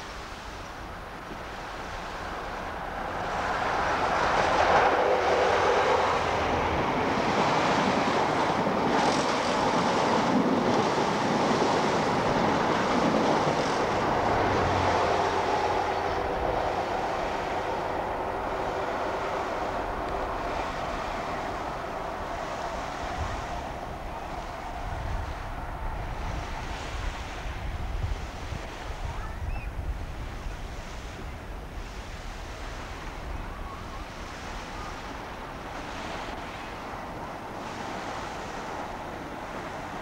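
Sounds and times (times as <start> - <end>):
diesel train passing: 0.0 - 29.1, 29.8 - 40.0.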